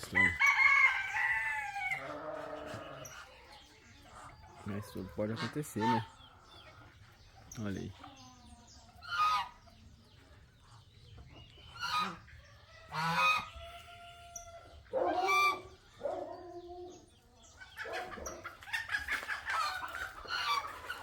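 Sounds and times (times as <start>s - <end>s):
poultry calling: 0.0s - 9.9s, 10.6s - 21.0s.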